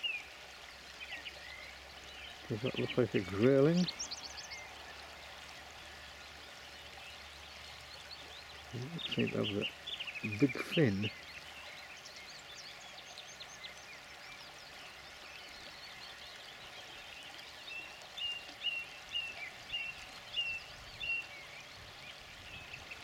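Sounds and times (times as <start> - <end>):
small birds singing: 0.0 - 23.0.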